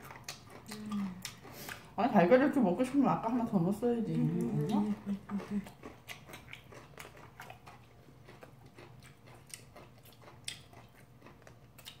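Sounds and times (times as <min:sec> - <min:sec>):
people chewing noodles: 0:00.0 - 0:02.0, 0:04.0 - 0:12.0.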